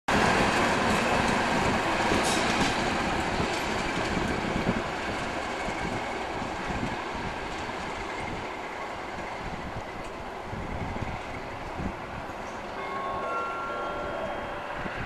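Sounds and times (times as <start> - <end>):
diesel locomotive passing: 0.1 - 15.0.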